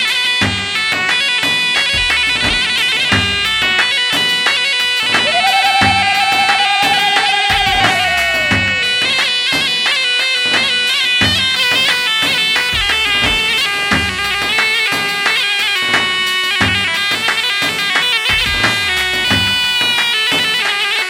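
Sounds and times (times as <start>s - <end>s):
drum beats: 0.0s - 21.0s
reedy wind instrument melody: 0.0s - 21.0s.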